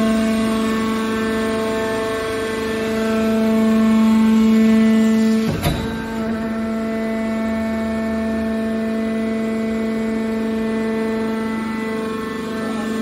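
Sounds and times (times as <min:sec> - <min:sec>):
hydraulic power unit humming: 0:00.0 - 0:13.0.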